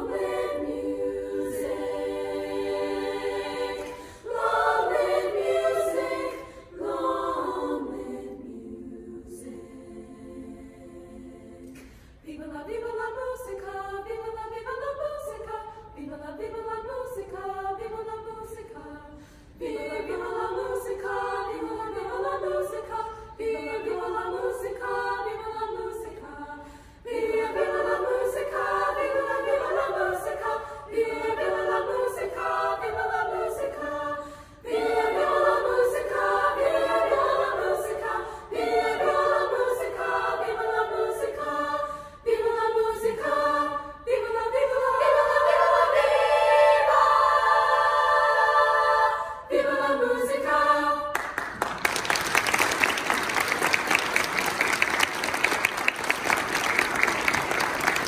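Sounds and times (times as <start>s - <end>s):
girls' choir singing: 0.0s - 58.0s.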